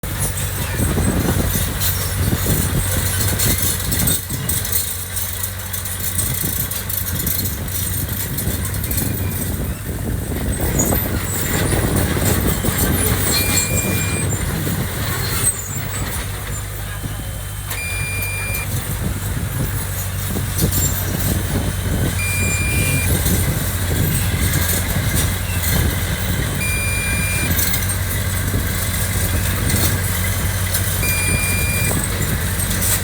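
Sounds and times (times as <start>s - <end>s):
diesel engine under load: 0.0s - 33.0s.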